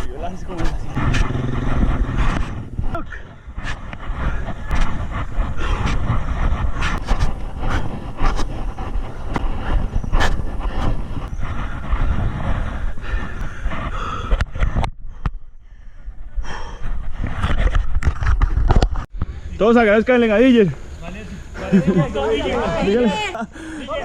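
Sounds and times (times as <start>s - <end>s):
wind rumble on microphone: 0.0s - 19.5s.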